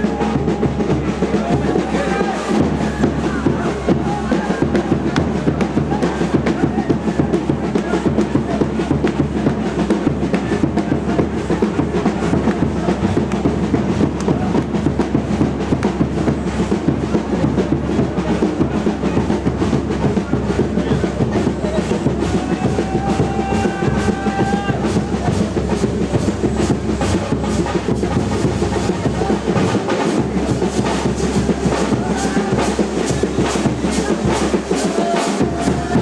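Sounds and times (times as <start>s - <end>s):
fast drumming: 0.0s - 36.0s.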